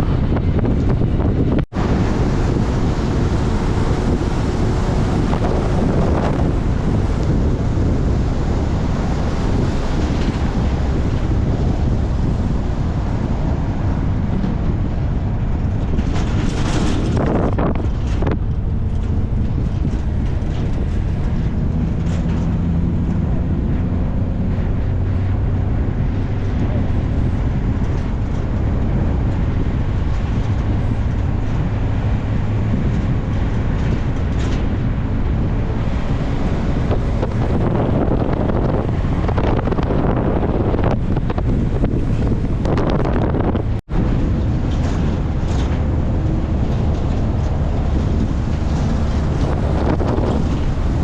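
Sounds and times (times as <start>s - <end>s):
car rumbling on the move: 0.0s - 51.0s
rushing whoosh: 0.0s - 51.0s
wind buffeting microphone: 0.0s - 51.0s.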